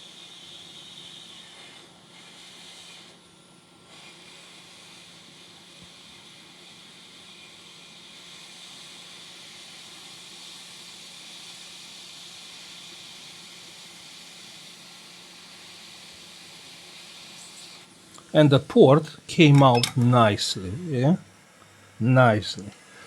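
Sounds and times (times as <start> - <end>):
hot air blower hissing: 0.0 - 19.6, 21.3 - 23.0.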